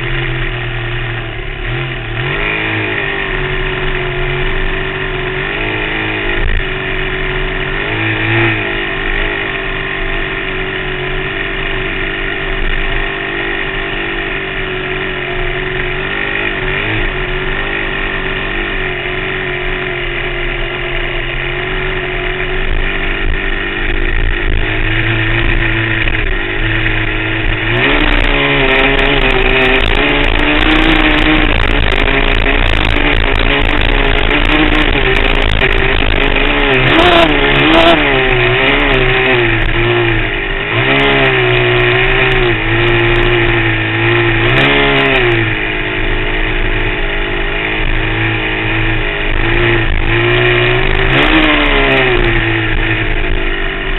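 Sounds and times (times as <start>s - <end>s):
off-road vehicle engine revving: 0.0s - 53.9s.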